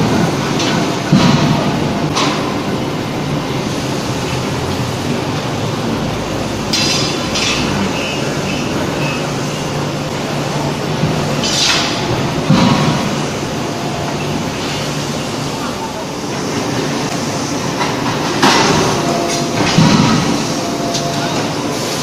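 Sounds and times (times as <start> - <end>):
forge machinery din: 0.0 - 22.0.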